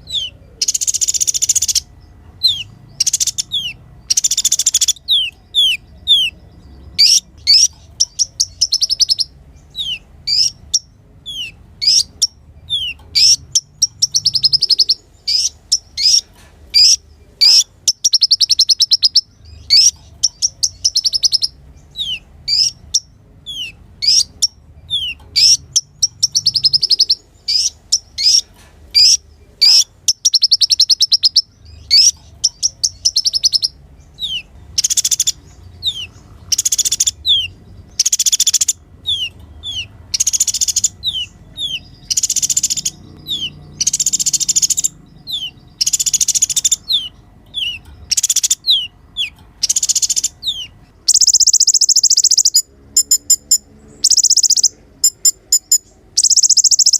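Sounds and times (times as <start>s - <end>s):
bird chips and buzzy trills: 0.0s - 56.9s.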